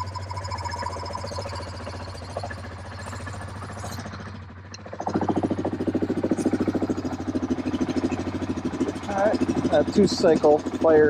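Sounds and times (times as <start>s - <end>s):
engine running with fast pulse: 0.0s - 11.0s.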